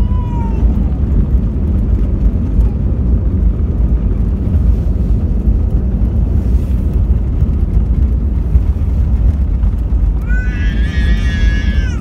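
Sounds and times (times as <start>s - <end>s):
airplane cabin engine rumble: 0.0s - 12.0s
wheels running over pavement: 0.0s - 12.0s.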